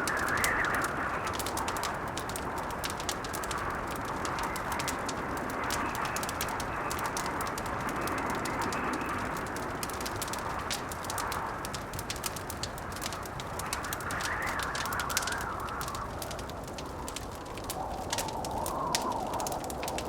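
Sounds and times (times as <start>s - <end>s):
blizzard wind moaning: 0.0s - 20.0s
wood fire crackling: 0.0s - 20.0s.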